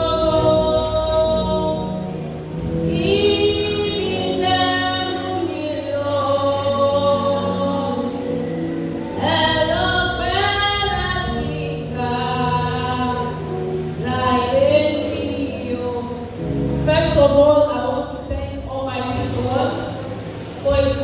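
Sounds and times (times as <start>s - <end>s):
woman singing gospel song: 0.0s - 20.0s.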